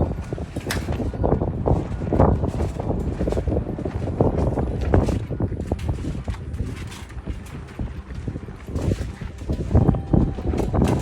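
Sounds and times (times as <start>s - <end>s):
wind gusting across microphone: 0.0s - 11.0s.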